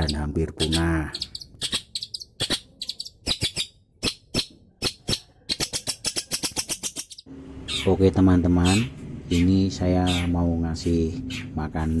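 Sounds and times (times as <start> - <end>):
bird chirping: 0.0 - 11.7.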